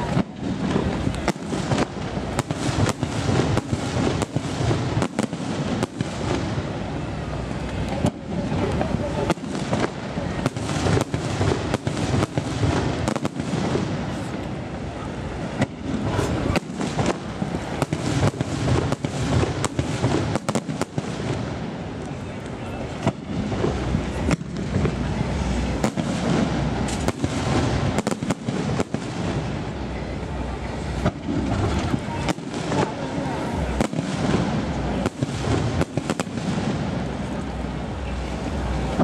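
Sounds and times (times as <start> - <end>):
fireworks bursts and bangs: 0.0 - 39.0.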